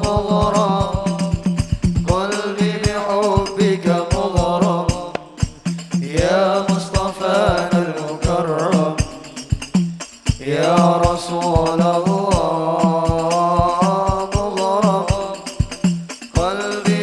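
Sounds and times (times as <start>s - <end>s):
person singing ornamented melody: 0.0s - 9.5s, 10.4s - 15.7s, 16.4s - 17.0s
hand-drum percussion: 0.0s - 17.0s.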